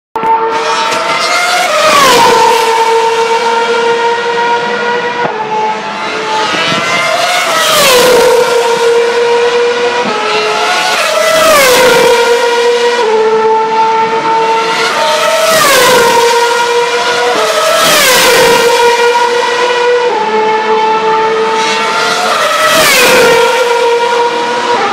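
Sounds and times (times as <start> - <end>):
racing cars passing at high revs: 0.2 - 24.9.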